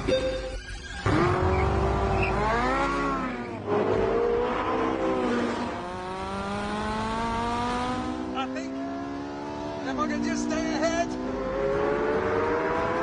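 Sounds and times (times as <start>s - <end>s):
car engine accelerating hard: 1.0s - 13.0s.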